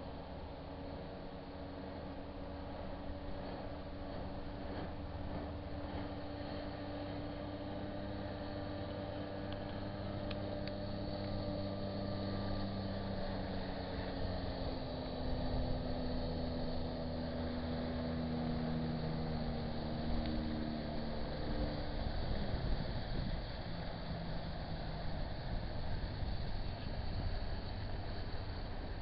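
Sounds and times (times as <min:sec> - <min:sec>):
motorboat engine running: 0:00.0 - 0:29.0.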